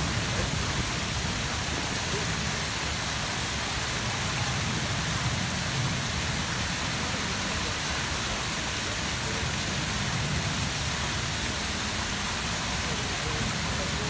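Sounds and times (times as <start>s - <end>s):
fountain water jets spraying: 0.0s - 14.0s.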